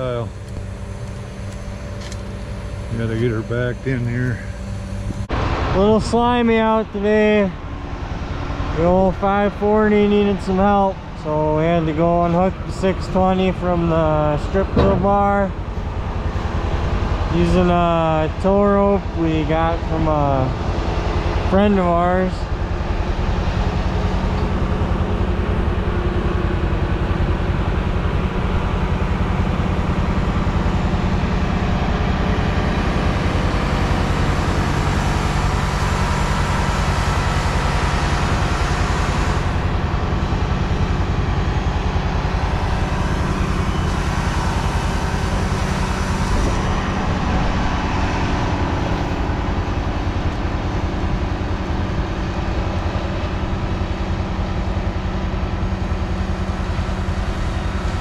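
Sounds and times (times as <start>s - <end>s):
tractor diesel engines running: 0.0s - 58.0s.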